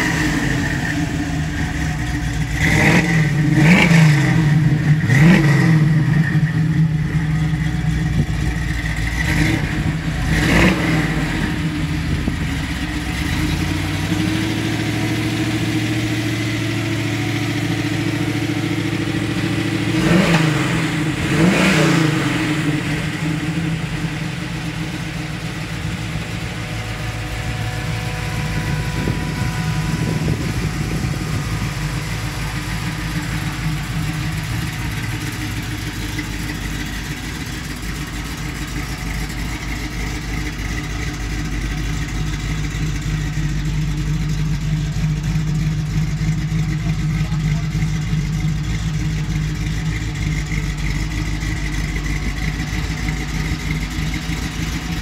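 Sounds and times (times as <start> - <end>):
car engine idling low rumble: 0.0 - 55.0.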